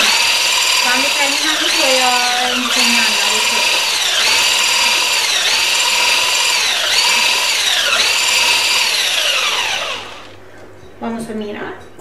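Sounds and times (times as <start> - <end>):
electric mixer whirring: 0.0 - 10.4.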